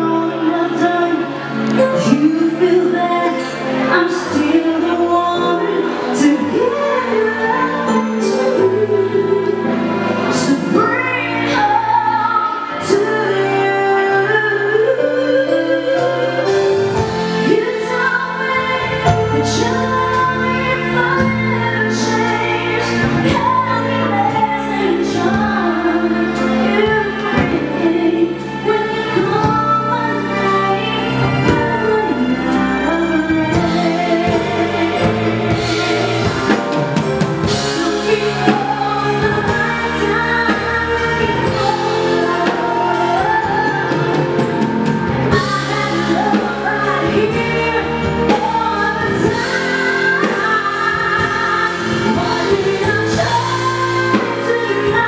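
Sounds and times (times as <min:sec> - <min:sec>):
drum kit: 0:00.0 - 0:55.0
keyboard: 0:00.0 - 0:55.0
woman singing into a microphone: 0:00.0 - 0:55.0.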